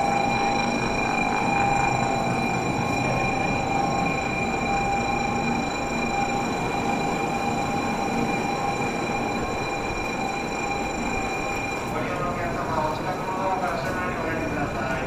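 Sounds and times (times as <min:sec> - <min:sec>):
high train whine: 0:00.0 - 0:15.0
train running noise: 0:00.0 - 0:15.0.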